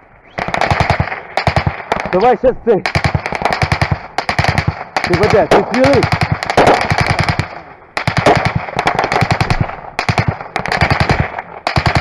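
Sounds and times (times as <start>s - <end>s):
automatic gunfire bursts: 0.3s - 12.0s.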